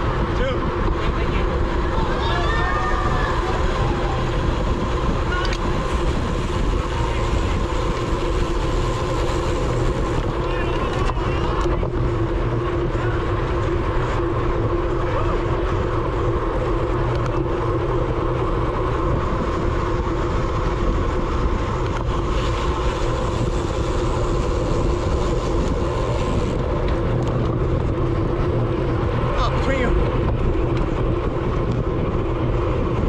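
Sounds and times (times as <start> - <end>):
tyres and drivetrain humming: 0.0 - 33.0
wind rush and road noise: 0.0 - 33.0.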